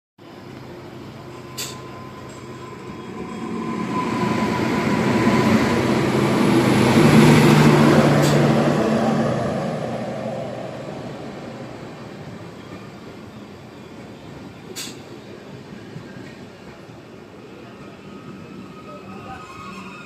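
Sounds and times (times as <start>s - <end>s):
passenger train passing: 0.2s - 20.0s.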